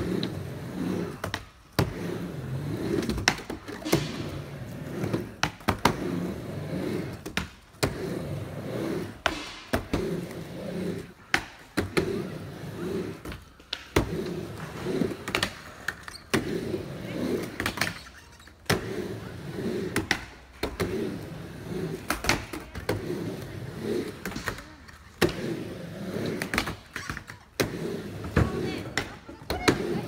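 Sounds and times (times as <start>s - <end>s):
skateboard wheels rumbling: 0.0s - 30.0s.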